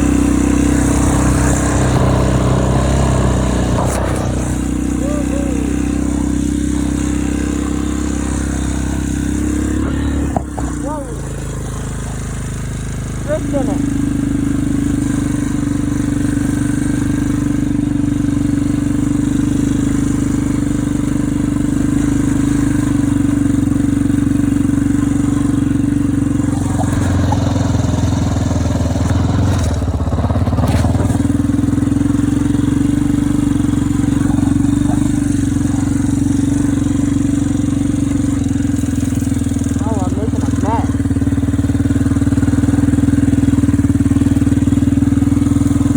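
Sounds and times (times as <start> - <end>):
engine clatter: 0.0 - 45.9
quad bike engine running: 0.0 - 45.9.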